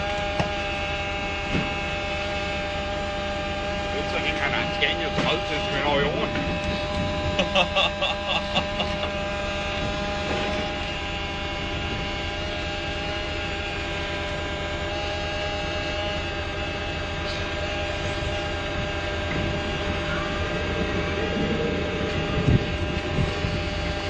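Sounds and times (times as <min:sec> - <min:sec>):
electric motors and hydraulic pump whine: 0:00.0 - 0:24.0.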